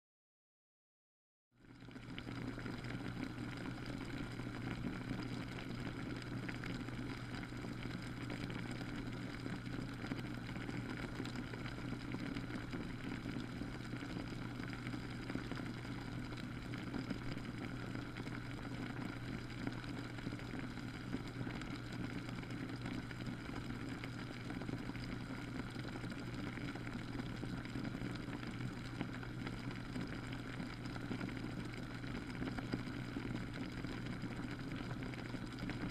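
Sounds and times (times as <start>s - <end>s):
humidifier humming: 1.7s - 35.9s.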